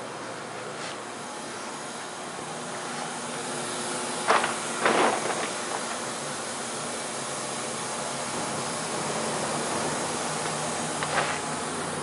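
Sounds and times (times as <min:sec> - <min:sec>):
machine whirring hiss: 0:00.0 - 0:12.0.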